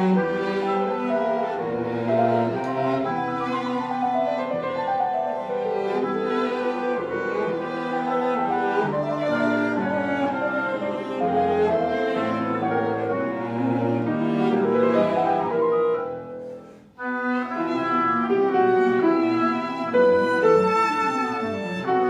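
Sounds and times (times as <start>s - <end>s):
cello: 0.0s - 22.0s
piano: 0.0s - 22.0s
violin: 0.0s - 22.0s.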